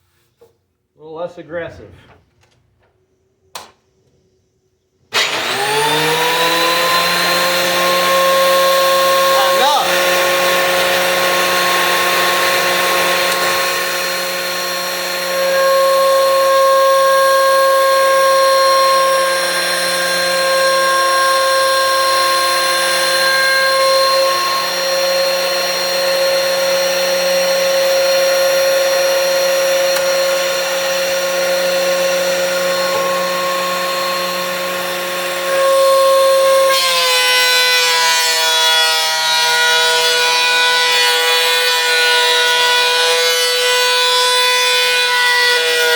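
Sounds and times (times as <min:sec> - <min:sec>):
thickness planer whining: 0:05.1 - 0:45.9.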